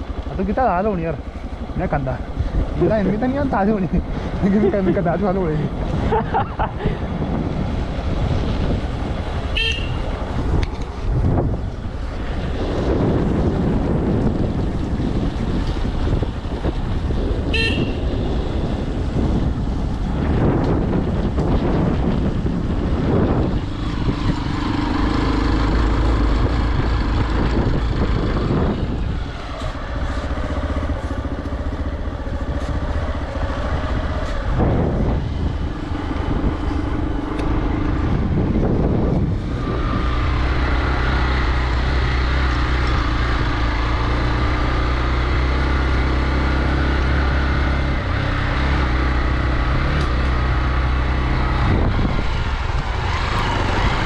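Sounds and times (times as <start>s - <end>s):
motorcycle engine running: 7.6s - 54.0s.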